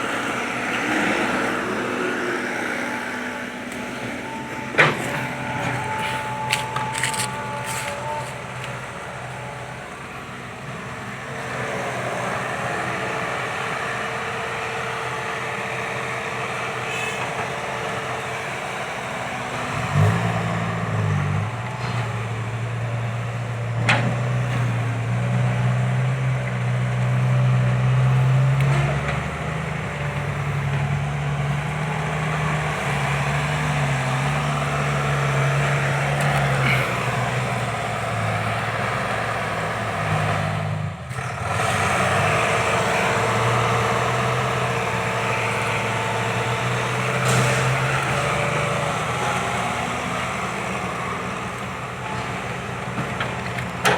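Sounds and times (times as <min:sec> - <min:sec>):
heavy diesel machinery engine: 0:00.0 - 0:53.9
low diesel engine note: 0:00.0 - 0:53.9.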